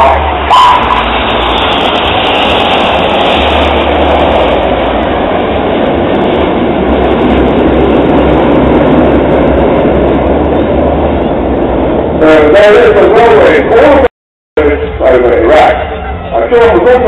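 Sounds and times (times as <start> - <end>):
jet aircraft roaring: 0.0 - 17.0.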